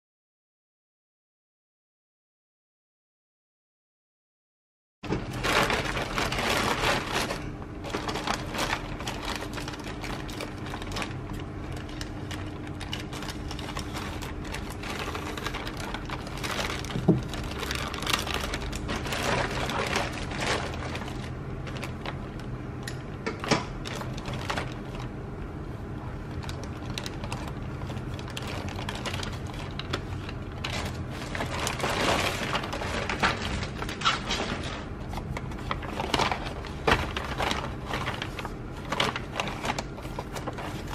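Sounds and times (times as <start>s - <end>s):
plastic mailer crinkling: 5.0s - 25.2s, 25.9s - 40.9s
steady low hum: 5.0s - 40.9s.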